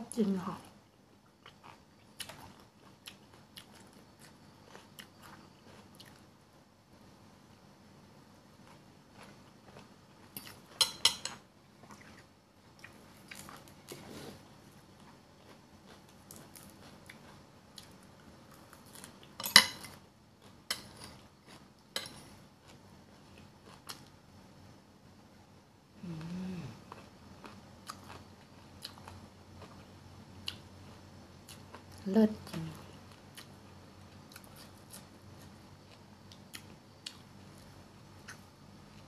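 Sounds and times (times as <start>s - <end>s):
quiet chewing: 0.6s - 6.3s, 8.6s - 24.2s, 26.0s - 39.0s.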